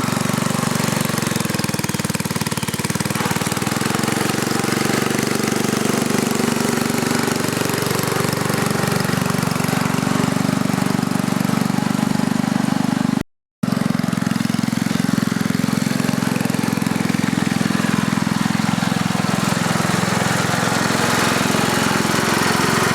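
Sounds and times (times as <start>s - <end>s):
small engine chugging: 0.0s - 22.9s.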